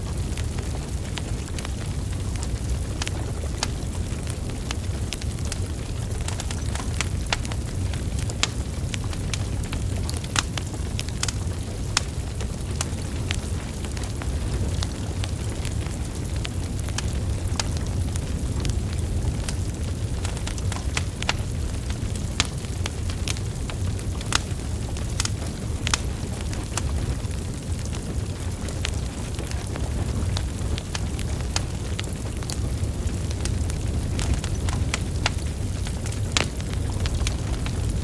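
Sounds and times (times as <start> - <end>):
logs crackling and popping: 0.0 - 38.0
low rumble of flames: 0.0 - 38.0.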